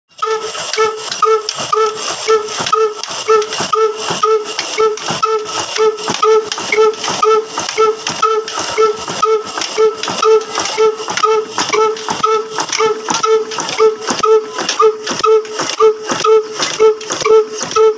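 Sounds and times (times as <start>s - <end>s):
diesel engine running: 0.1s - 17.9s.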